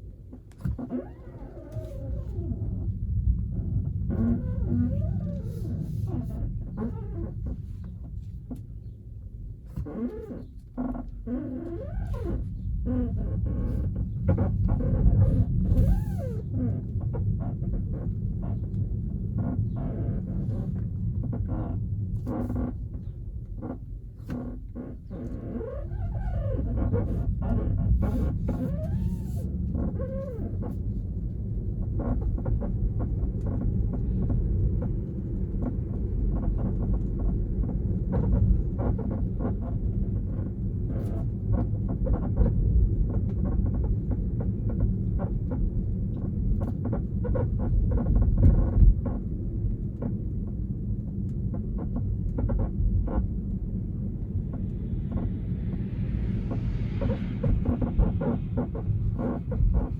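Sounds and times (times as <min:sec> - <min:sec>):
car rolling rumble: 0:00.0 - 0:59.9.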